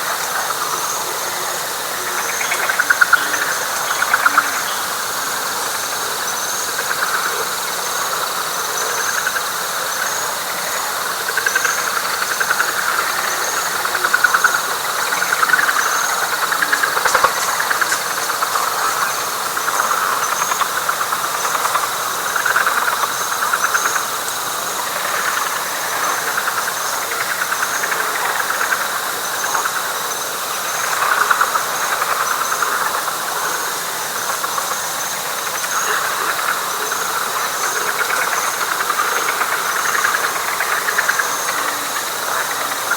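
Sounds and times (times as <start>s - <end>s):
frog chorus trilling: 0.0s - 42.9s.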